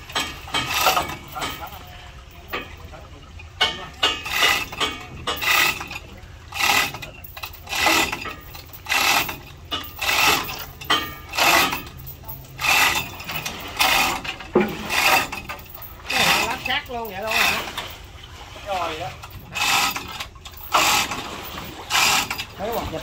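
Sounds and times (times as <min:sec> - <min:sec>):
hand tool rasping strokes: 0:00.2 - 0:01.7, 0:04.1 - 0:17.8, 0:19.3 - 0:23.0.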